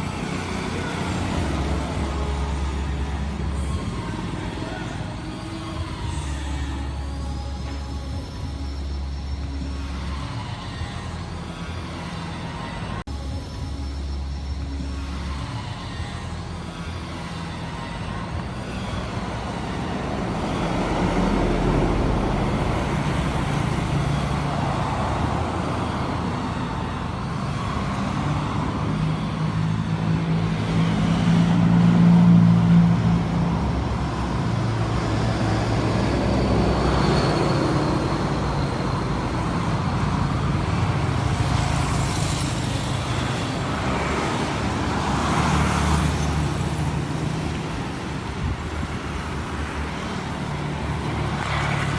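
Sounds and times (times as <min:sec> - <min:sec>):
road traffic noise: 0:00.0 - 0:51.9.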